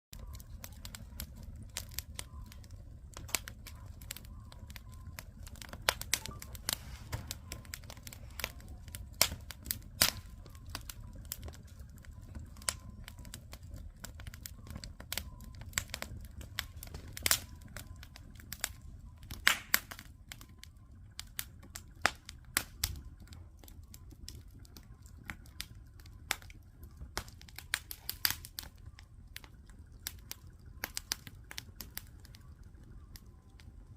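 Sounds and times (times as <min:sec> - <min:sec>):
campfire crackling and popping: 0:00.1 - 0:33.9.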